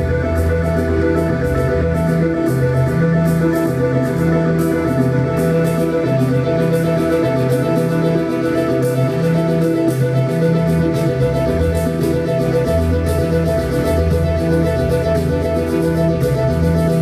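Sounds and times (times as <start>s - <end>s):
low bass line: 0.0s - 17.0s.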